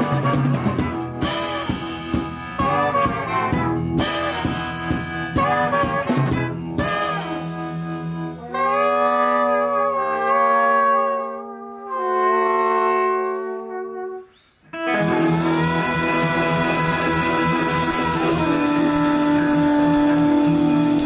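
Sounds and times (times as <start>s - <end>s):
jazz horn section chords: 0.0s - 21.0s.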